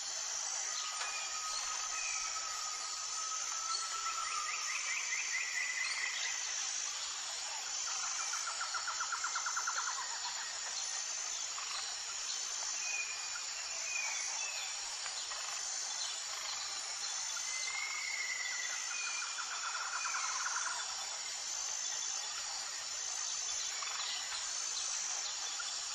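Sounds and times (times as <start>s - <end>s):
high insect-like hiss: 0.0s - 25.9s.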